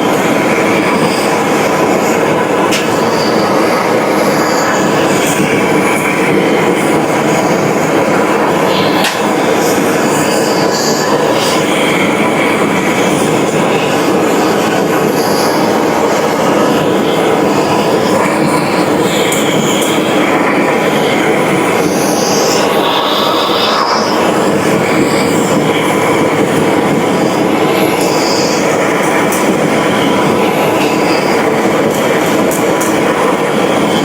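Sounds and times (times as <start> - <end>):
heavy machinery running: 0.0 - 34.0.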